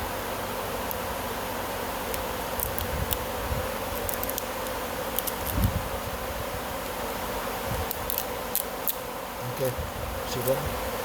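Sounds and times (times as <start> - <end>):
steady buzzing hum: 0.0 - 11.0.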